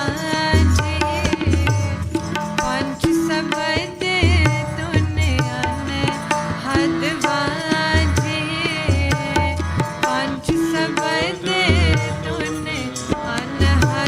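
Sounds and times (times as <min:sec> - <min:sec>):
tabla strokes: 0:00.0 - 0:14.0.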